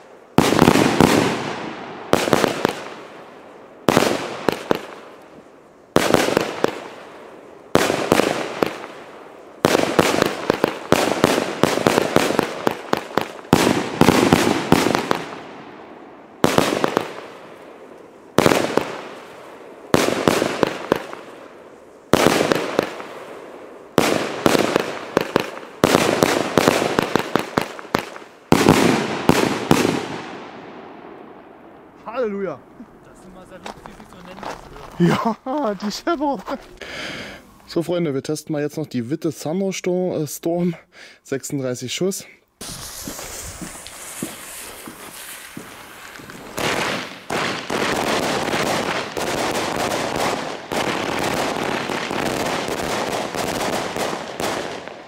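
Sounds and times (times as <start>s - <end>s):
firework shots with sharp reports: 0.0s - 35.0s, 42.6s - 55.0s.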